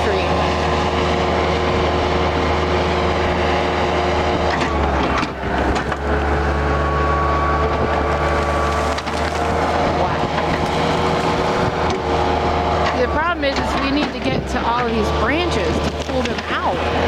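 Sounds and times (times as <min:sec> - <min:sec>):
skid steer engine running hard: 0:00.0 - 0:17.0.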